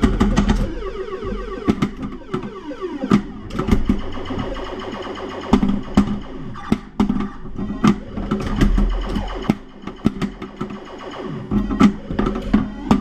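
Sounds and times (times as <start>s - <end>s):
electronic tones: 0.0s - 13.0s
pinball clacks: 0.0s - 13.0s.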